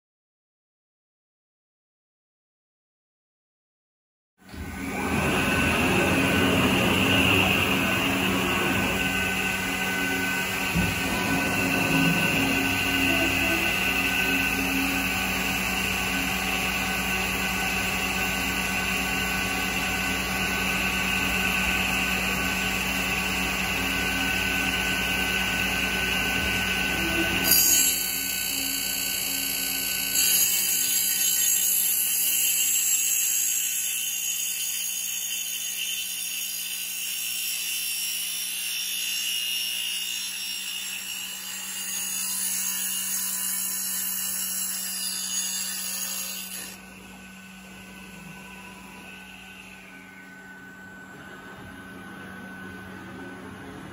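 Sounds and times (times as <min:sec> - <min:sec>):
circular saw blade whining: 0:04.5 - 0:53.2.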